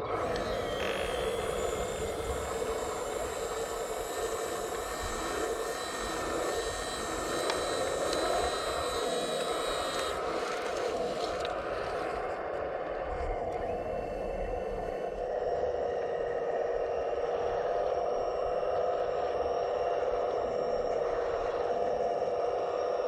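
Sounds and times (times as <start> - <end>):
electric motors whirring: 0.0 - 23.0
higher motor whine: 0.0 - 23.0.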